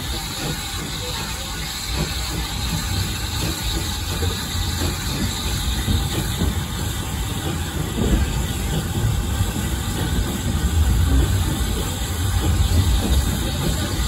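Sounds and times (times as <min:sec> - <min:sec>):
steam engine hissing: 0:00.0 - 0:14.0
train wheels clattering on track: 0:00.0 - 0:14.0.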